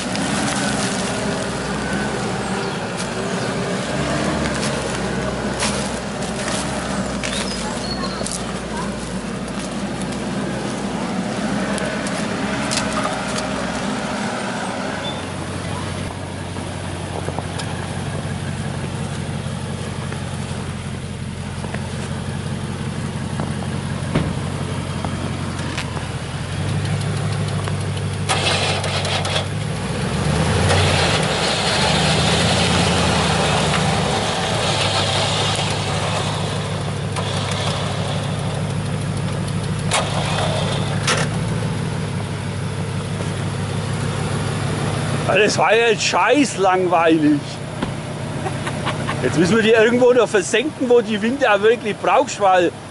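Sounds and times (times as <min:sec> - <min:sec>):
pickup truck engine: 0:00.0 - 0:52.9.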